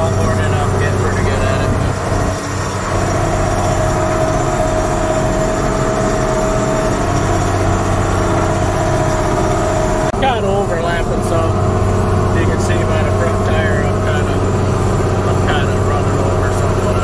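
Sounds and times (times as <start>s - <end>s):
steady whine: 0.0s - 17.0s
tractor engine running under load: 0.0s - 17.0s.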